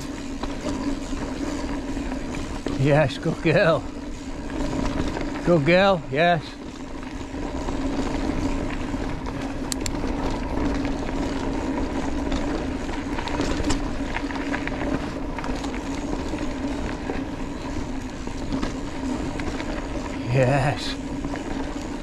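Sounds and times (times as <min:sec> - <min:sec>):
bike rattles and clicks: 0:00.0 - 0:22.0
bike tyre hum and rumble: 0:00.0 - 0:22.0.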